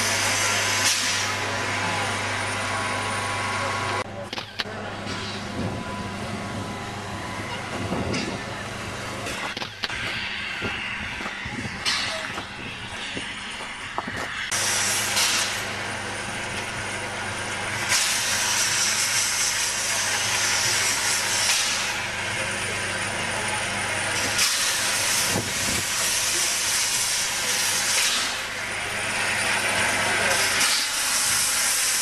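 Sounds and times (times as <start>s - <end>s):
steam locomotive hissing steam: 0.0s - 4.0s, 5.2s - 32.0s.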